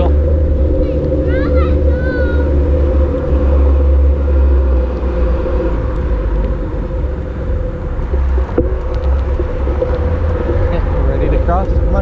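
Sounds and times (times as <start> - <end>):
droning hum: 0.0 - 12.0
low rumble: 0.0 - 12.0.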